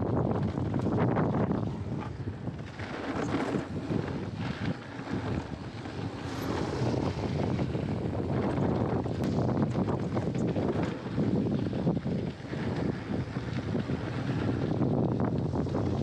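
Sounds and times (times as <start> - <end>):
bike rattling and knocking: 0.0 - 16.0
bike tyres rolling on dirt: 0.0 - 16.0
wind buffeting microphone: 0.0 - 16.0.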